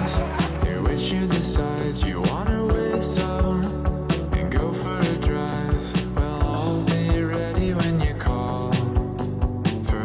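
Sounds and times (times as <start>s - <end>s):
band song with guitar: 0.0s - 10.0s
steady drum beat: 0.0s - 10.0s.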